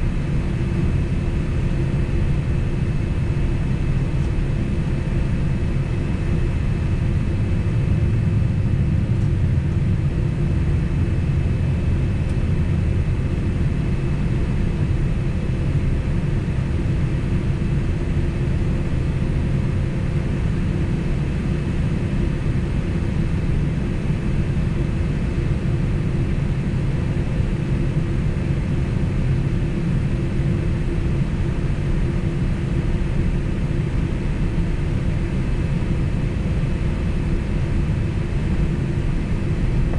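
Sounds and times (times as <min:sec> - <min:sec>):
airliner engines rumbling: 0:00.0 - 0:39.9.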